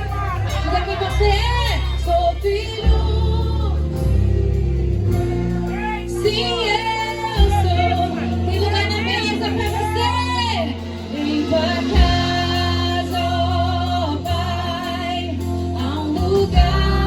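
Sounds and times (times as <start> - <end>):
gospel song with female vocal: 0.0 - 17.0
heavy sustained bass: 0.0 - 17.0.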